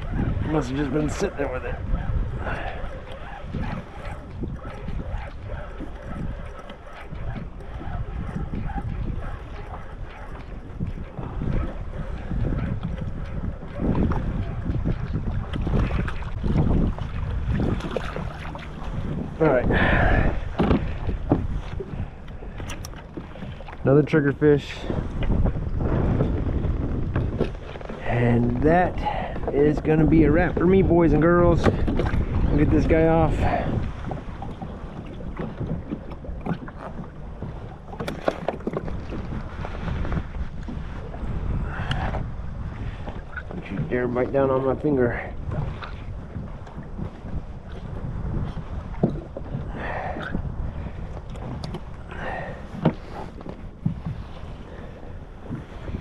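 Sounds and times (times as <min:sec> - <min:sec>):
choppy sea: 0:00.0 - 0:56.0
water rumbling against kayak: 0:00.0 - 0:56.0
wind buffeting microphone: 0:00.0 - 0:56.0.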